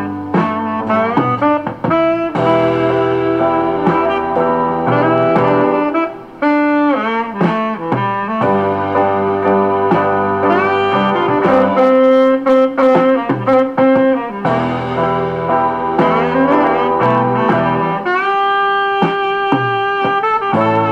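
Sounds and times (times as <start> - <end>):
horn melody: 0.0 - 20.9
piano and band backing: 0.0 - 20.9.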